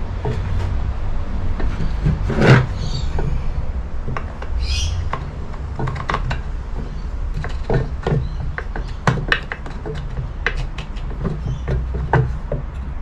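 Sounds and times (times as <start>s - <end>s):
metal knocks and scrapes: 0.0s - 13.0s.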